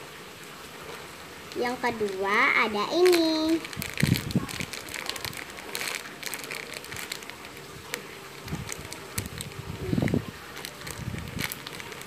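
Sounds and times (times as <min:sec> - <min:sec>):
plastic wrapper crinkling: 0:01.5 - 0:12.0.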